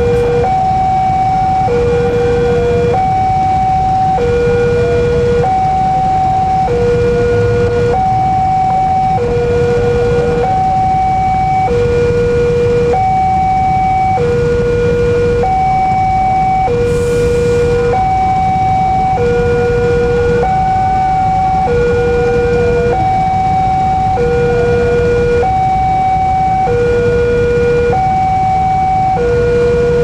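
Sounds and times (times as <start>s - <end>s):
level crossing two-tone alarm: 0.0s - 30.0s
low rumble of traffic: 0.0s - 30.0s.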